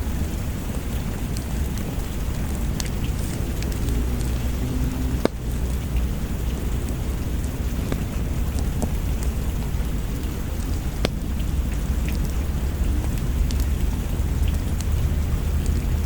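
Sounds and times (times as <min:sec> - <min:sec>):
deep low rumble: 0:00.0 - 0:16.0
steady rain: 0:00.0 - 0:16.0
wood fire crackling and popping: 0:00.0 - 0:16.0.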